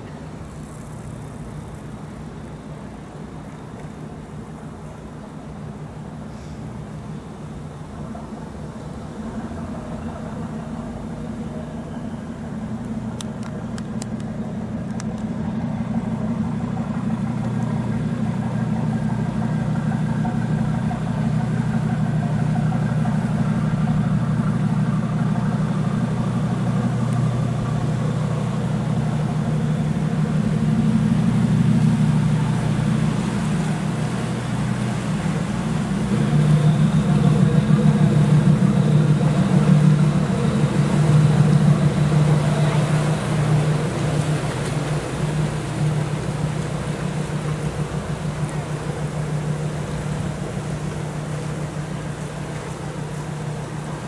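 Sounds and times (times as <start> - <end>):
boat engines humming: 0.0 - 54.0.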